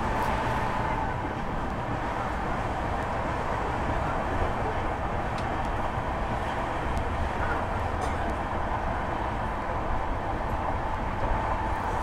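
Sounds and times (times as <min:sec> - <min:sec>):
train rolling along track: 0:00.0 - 0:12.0.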